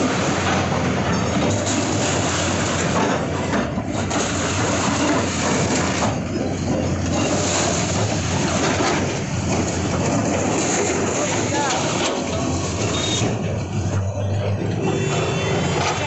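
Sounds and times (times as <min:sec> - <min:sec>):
diesel engine hum: 0:00.0 - 0:16.0.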